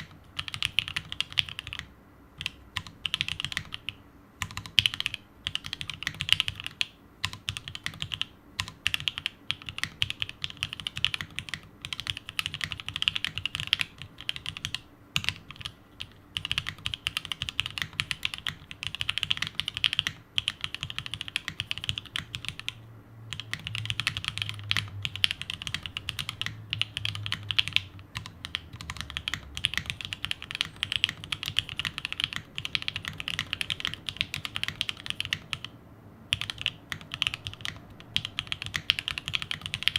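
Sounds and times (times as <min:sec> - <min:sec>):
mechanical keyboard typing clacks: 0:00.0 - 0:35.7, 0:36.3 - 0:39.9.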